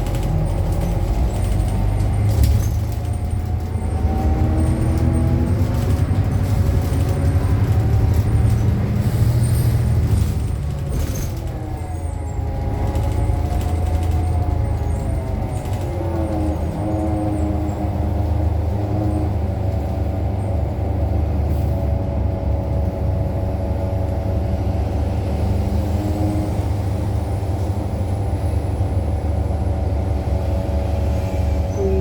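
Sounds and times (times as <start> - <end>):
bus engine low rumble: 0.0 - 32.0.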